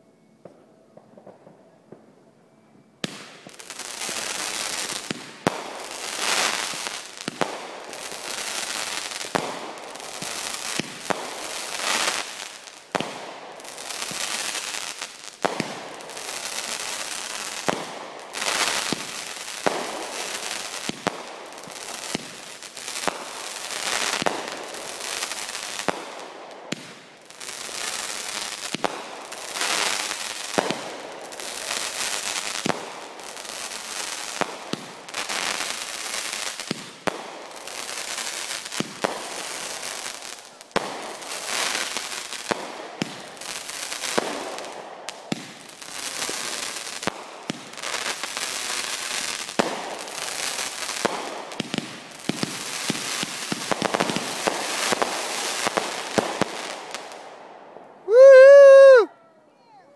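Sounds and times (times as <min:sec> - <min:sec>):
fireworks bangs: 0:03.0 - 0:57.4.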